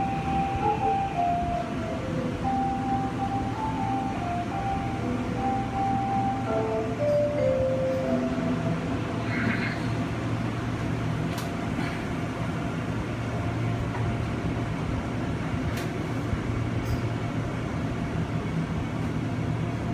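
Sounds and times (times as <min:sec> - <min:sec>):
electric train hum and rumble: 0:00.0 - 0:19.9.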